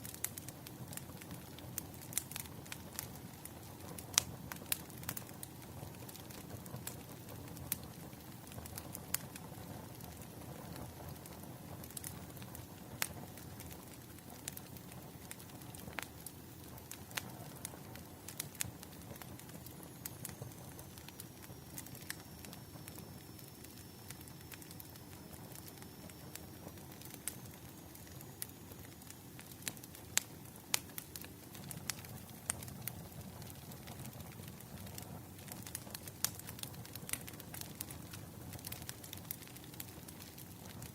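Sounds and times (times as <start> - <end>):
low rumbling hiss: 0.0 - 40.9
wood fire crackling: 0.0 - 40.9.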